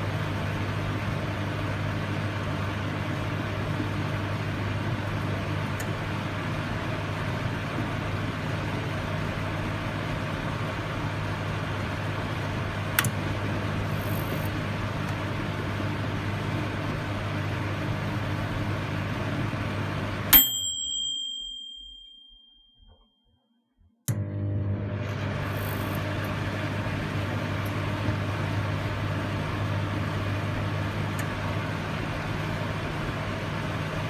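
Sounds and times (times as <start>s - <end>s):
microwave oven humming: 0.0s - 22.0s, 24.1s - 34.0s.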